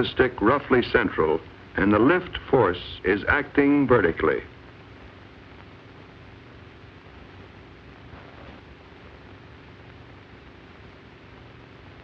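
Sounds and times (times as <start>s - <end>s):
faint low hum: 0.0s - 12.0s
steady film soundtrack hiss: 0.0s - 12.0s.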